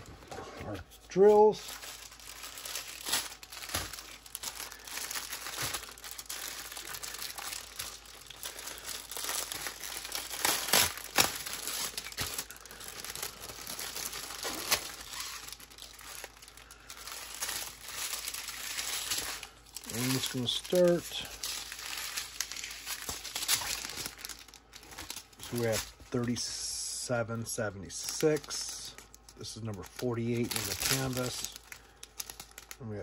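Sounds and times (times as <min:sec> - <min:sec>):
plastic packaging crinkling: 0:00.9 - 0:26.6, 0:27.6 - 0:33.0.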